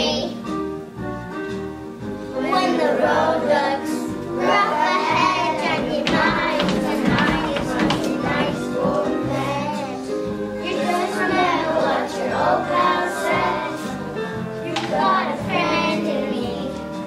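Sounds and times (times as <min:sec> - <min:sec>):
children singing together: 0:00.0 - 0:00.4, 0:02.1 - 0:17.0
instrumental accompaniment: 0:00.0 - 0:17.0.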